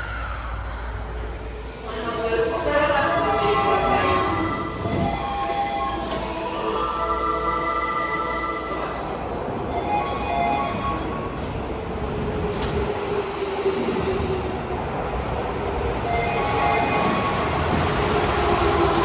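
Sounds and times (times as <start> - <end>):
subway train noise: 0.0 - 19.0.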